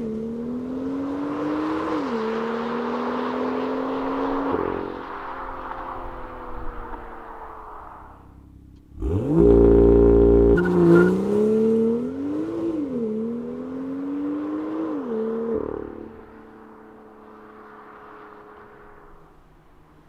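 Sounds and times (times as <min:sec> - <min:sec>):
car engine revving and accelerating: 0:00.0 - 0:19.4.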